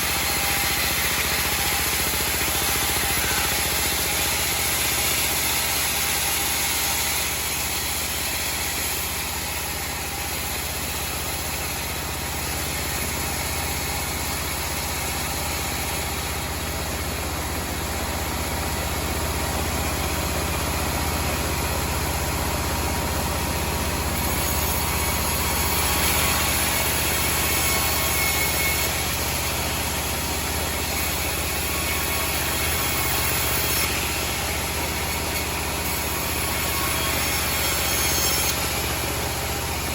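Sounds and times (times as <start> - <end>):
band sawmill hum: 0.0 - 39.9.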